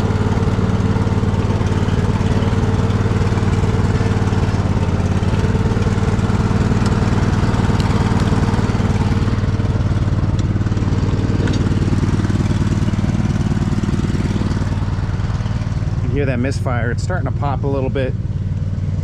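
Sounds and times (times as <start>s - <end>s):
riding mower engine misfiring: 0.0s - 19.0s.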